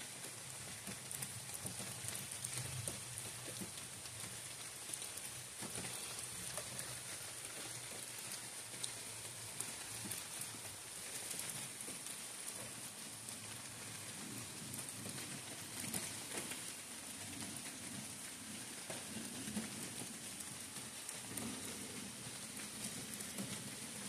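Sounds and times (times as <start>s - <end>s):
rain on forest canopy: 0.0s - 24.0s.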